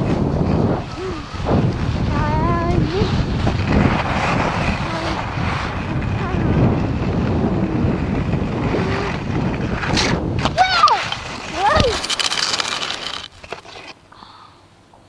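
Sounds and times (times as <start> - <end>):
wind buffeting microphone: 0.0 - 13.6
skis sliding over snow: 0.0 - 14.0.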